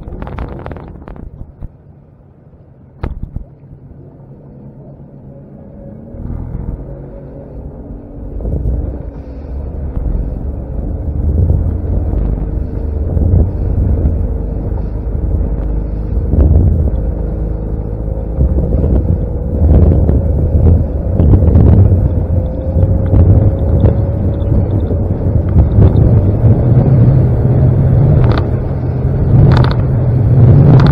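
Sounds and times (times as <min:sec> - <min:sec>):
wind buffeting microphone: 0:00.0 - 0:01.9, 0:06.1 - 0:30.9
motorboat engine drone: 0:00.0 - 0:30.9.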